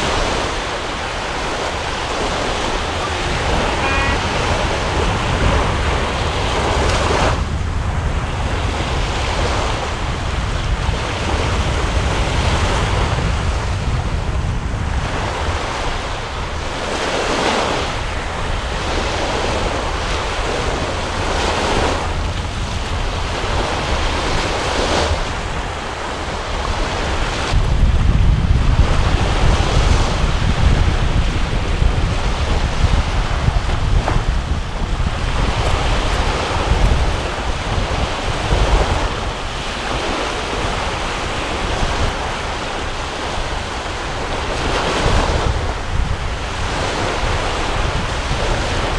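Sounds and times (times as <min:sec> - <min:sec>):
waves breaking: 0:00.0 - 0:48.9
wind buffeting microphone: 0:00.0 - 0:48.9.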